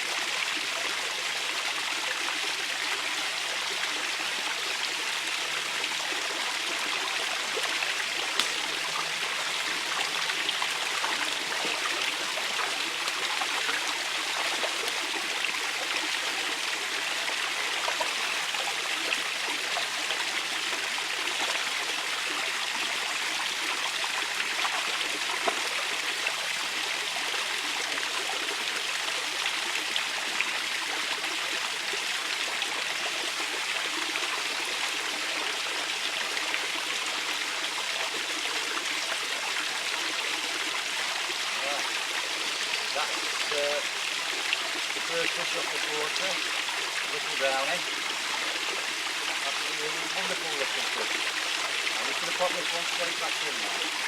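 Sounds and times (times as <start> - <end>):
river babbling over stones: 0.0 - 54.0
water splashes: 0.0 - 54.0.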